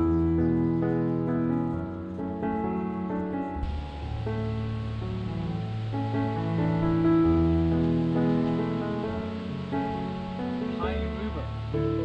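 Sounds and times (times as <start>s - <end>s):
slow keyboard chords: 0.0s - 12.0s.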